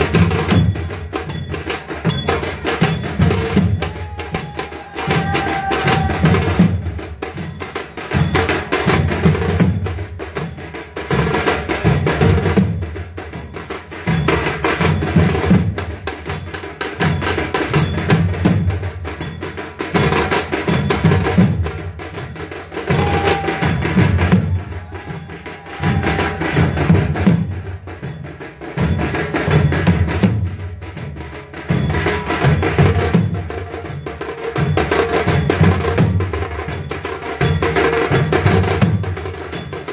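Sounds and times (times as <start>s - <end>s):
clashing metal percussion: 0.0s - 39.9s
drums beaten fast: 0.0s - 39.9s.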